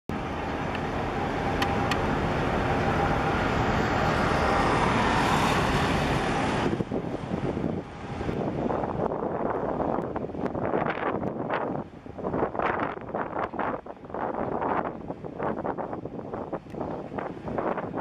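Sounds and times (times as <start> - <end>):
rushing road traffic: 0.1 - 18.0
wind rumble on microphone: 0.1 - 18.0.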